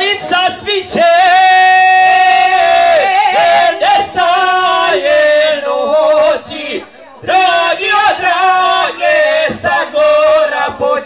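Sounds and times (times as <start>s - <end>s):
man and woman singing in harmony: 0.0s - 11.0s.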